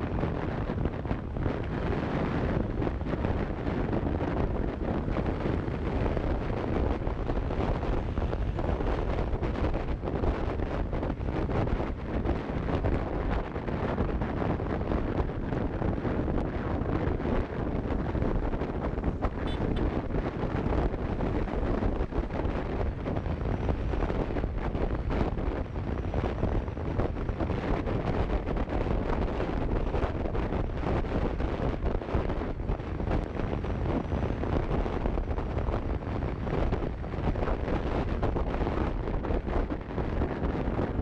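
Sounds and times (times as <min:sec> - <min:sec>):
road noise: 0:00.0 - 0:41.0
wind buffeting microphone: 0:00.0 - 0:41.0.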